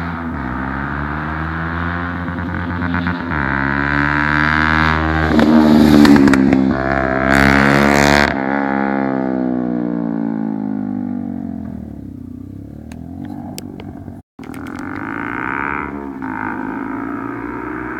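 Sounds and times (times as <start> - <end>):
motorcycle passing by: 0.0 - 17.9.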